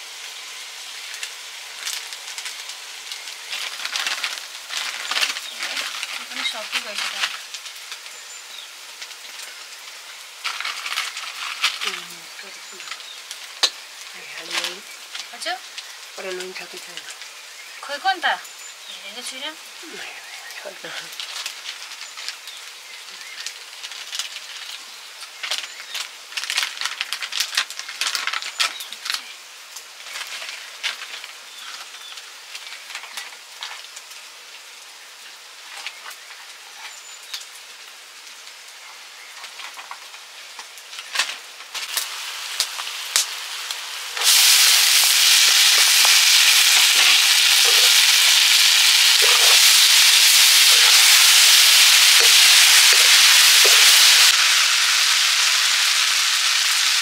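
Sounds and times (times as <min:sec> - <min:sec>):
loud steady sizzle: 0:00.0 - 0:57.0
oil crackling and popping: 0:00.0 - 0:57.0.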